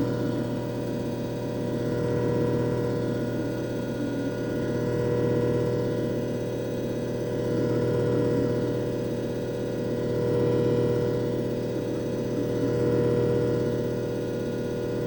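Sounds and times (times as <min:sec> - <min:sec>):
disc repair machine motor hum: 0:00.0 - 0:15.0.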